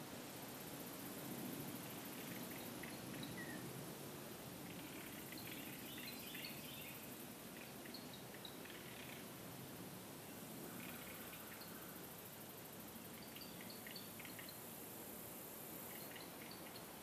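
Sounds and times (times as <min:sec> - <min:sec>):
woodland background noise: 0:00.0 - 0:17.0.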